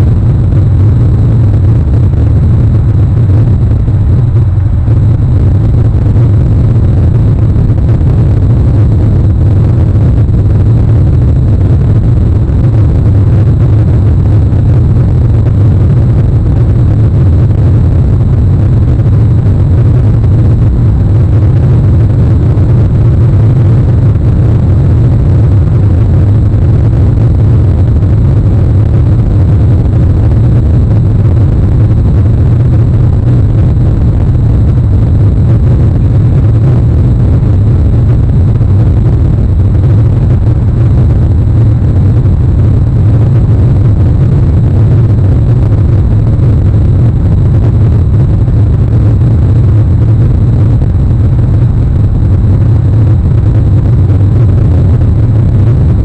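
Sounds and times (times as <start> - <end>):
loud low rumble: 0.0 - 56.0.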